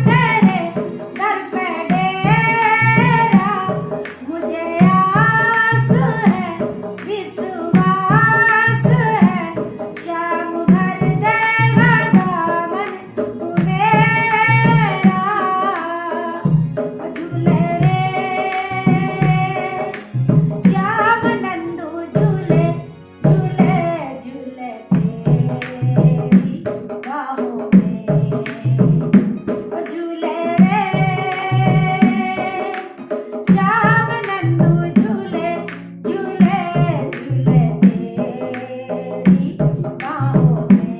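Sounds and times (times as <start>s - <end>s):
hand drum beat: 0.0s - 24.0s, 24.9s - 40.9s
woman singing melismatically: 0.0s - 40.9s.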